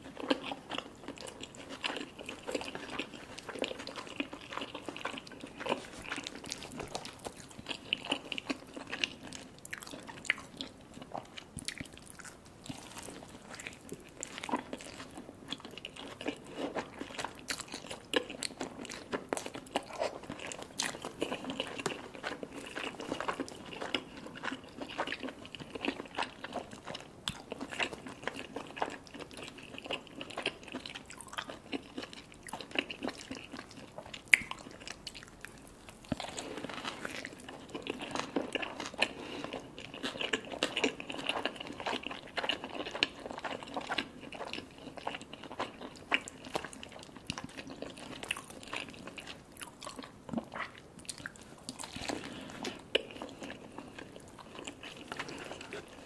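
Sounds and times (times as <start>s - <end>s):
close chewing with wet mouth clicks: 0.0s - 56.0s.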